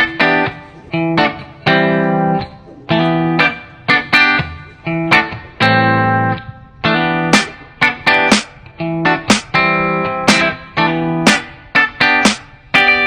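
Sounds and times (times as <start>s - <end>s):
electric guitar rhythmic chords: 0.0s - 13.0s.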